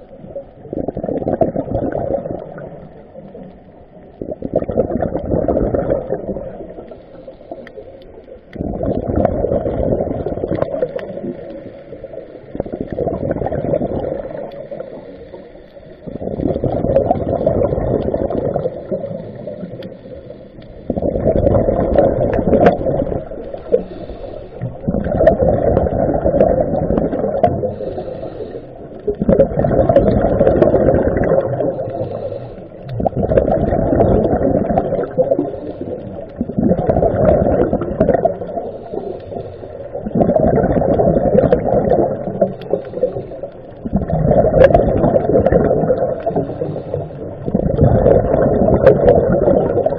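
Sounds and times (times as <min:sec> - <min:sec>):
underwater exhaled bubbles gurgling: 0:00.0 - 0:49.9.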